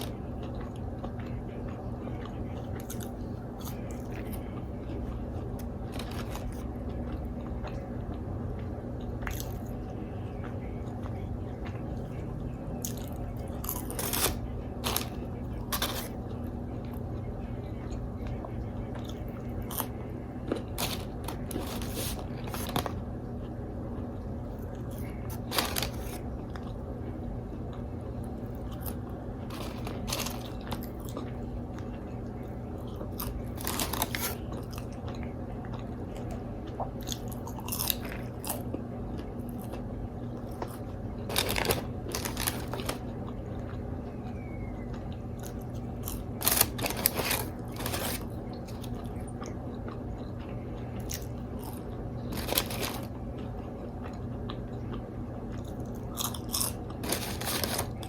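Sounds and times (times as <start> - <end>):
crunchy chewing of fried food: 0.0 - 58.0
steady low hum: 0.0 - 58.0.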